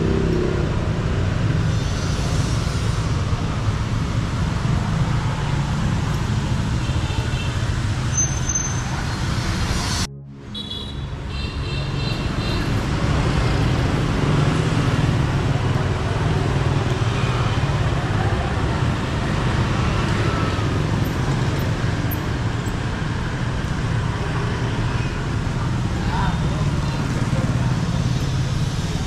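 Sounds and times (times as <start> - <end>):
motorbikes and scooters passing: 0.0 - 8.2, 8.8 - 29.0.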